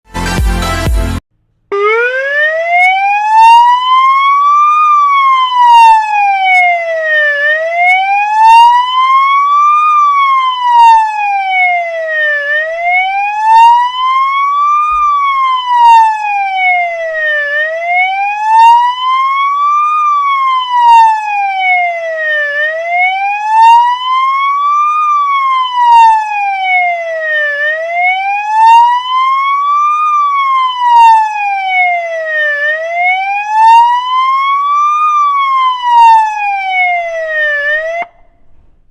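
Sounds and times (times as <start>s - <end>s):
police siren wailing: 1.7s - 38.5s.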